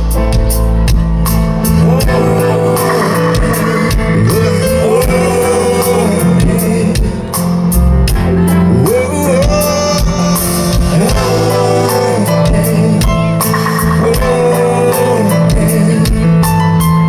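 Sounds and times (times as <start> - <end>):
live reggae band playing: 0.0 - 17.0
person singing: 1.6 - 7.4, 8.1 - 16.5.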